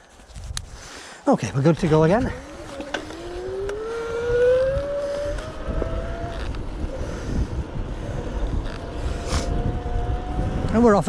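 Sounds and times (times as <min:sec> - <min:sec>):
wind rumbling on microphone: 0:00.0 - 0:11.0
electric bike motor whining: 0:01.8 - 0:10.7.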